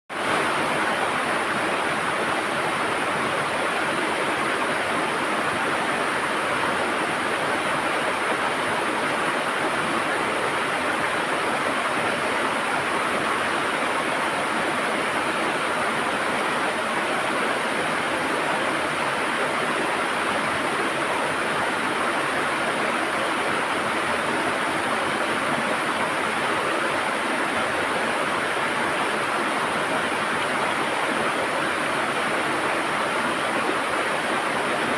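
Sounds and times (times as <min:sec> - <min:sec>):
river water flowing: 0:00.1 - 0:34.9.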